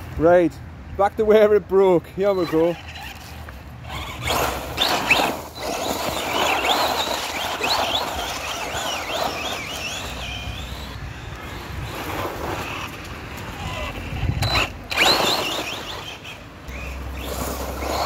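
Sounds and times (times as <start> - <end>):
tyres on gravel: 0.0 - 18.0
electric motor whining: 2.5 - 18.0.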